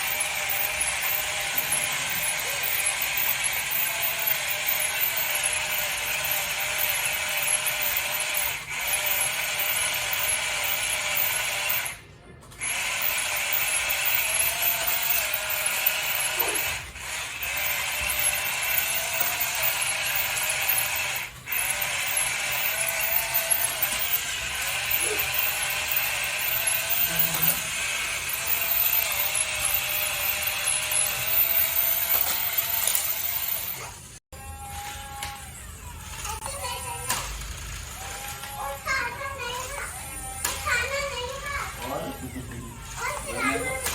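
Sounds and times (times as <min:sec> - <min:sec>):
toy car motors whirring: 0:00.0 - 0:43.9.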